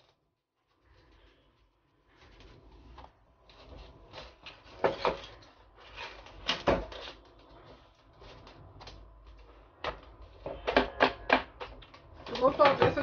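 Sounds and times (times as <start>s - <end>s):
paper and tape rustling: 0.0s - 10.9s, 11.5s - 13.0s.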